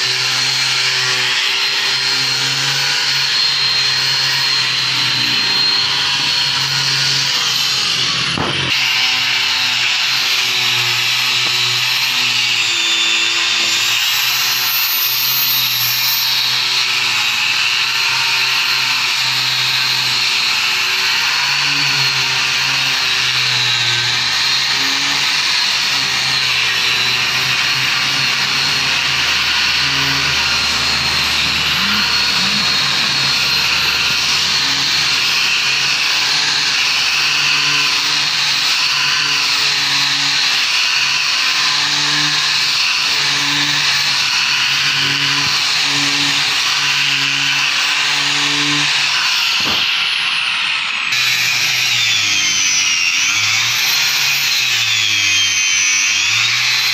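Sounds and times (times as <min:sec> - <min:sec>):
sanding disc scraping wood: 0:00.0 - 0:50.2
angle grinder motor whine: 0:00.0 - 0:56.9.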